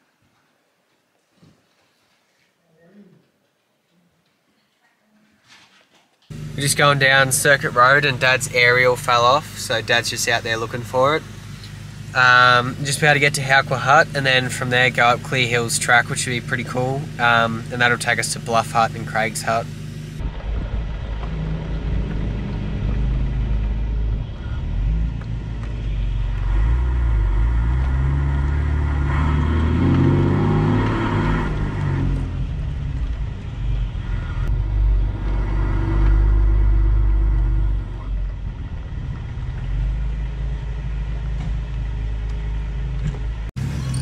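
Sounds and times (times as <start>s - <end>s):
off-road vehicle engine running: 6.3s - 44.0s
tyre and road rumble: 6.3s - 44.0s.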